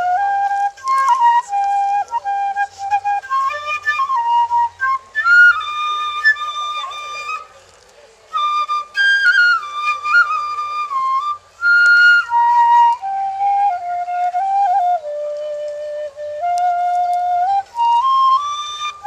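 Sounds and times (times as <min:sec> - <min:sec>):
flute playing slow melody: 0:00.0 - 0:07.6, 0:08.3 - 0:19.0.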